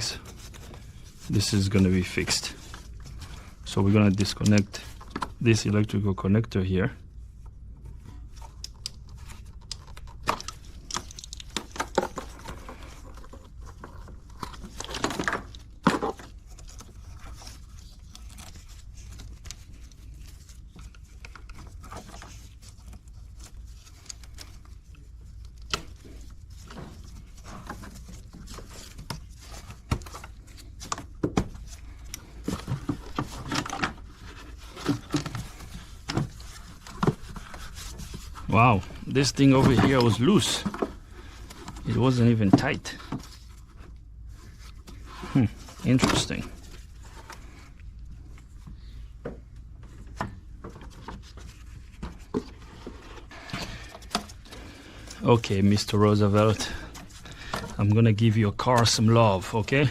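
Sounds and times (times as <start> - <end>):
low steady hum: 0.0 - 59.9
clicks and plastic rattles of hand work: 2.0 - 6.0, 7.8 - 55.4, 56.2 - 57.9.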